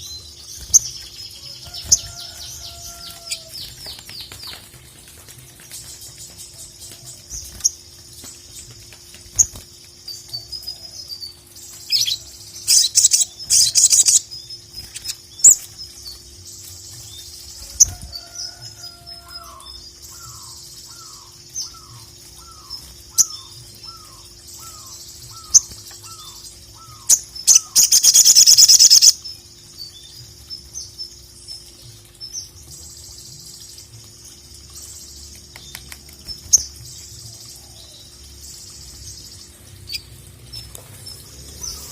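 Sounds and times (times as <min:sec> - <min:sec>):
bird high rapid chirps and trills: 0:00.0 - 0:41.9.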